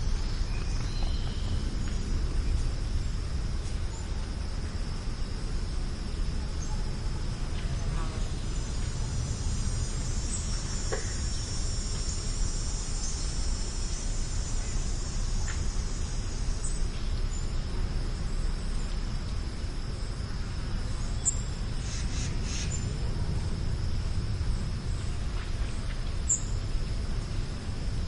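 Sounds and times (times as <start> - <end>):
high insect trill: 0.0 - 28.0
low rumble: 0.0 - 28.0.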